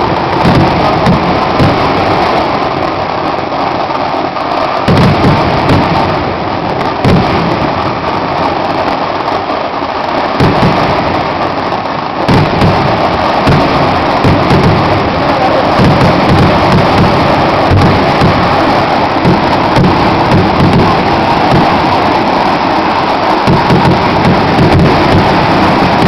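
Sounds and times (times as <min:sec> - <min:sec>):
firecrackers crackling: 0:00.0 - 0:26.0
heavy firework booms: 0:00.0 - 0:26.0.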